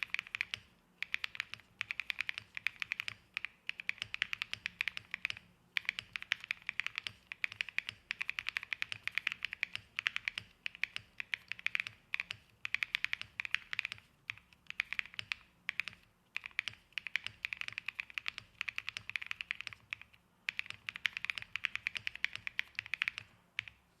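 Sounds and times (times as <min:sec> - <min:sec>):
mechanical keyboard key clicks: 0:00.0 - 0:23.8.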